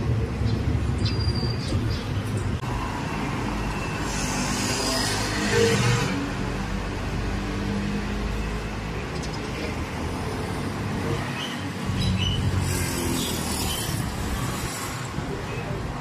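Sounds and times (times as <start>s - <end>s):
passing traffic rumble: 0.0s - 16.0s.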